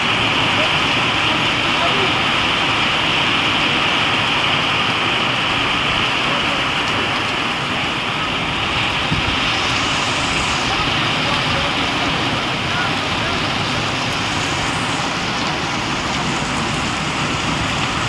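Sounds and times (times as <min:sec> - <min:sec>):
heavy rain in wind: 0:00.0 - 0:18.0.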